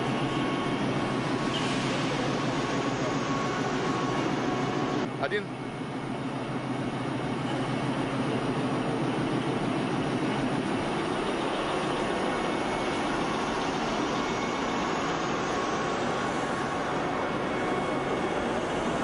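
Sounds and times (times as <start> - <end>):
locomotive engine idling: 0.0 - 19.0.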